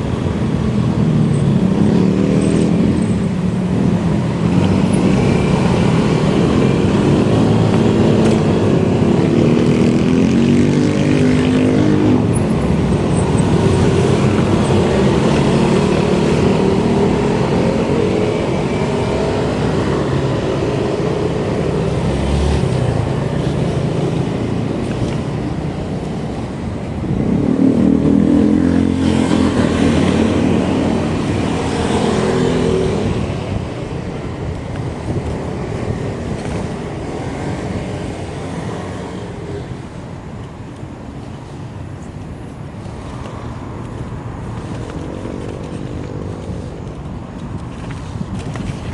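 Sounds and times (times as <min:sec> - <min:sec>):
road and wind noise: 0:00.0 - 0:48.9.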